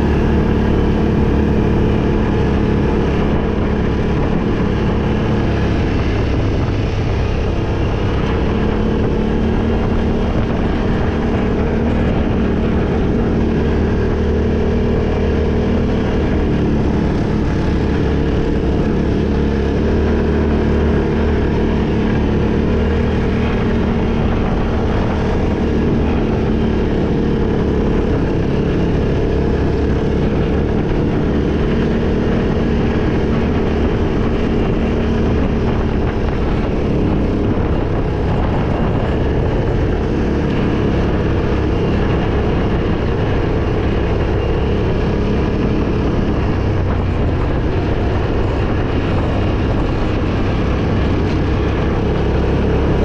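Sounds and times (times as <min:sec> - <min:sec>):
vehicle engine running steadily: 0:00.0 - 0:53.0.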